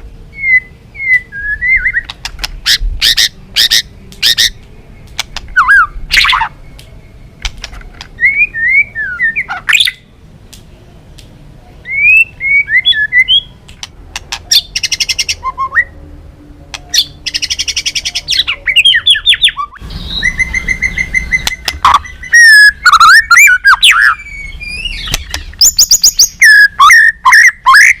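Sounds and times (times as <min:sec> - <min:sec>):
bird singing whistles and trills: 0:00.3 - 0:07.4, 0:08.2 - 0:10.0, 0:11.8 - 0:13.6, 0:14.5 - 0:16.0, 0:16.8 - 0:28.0.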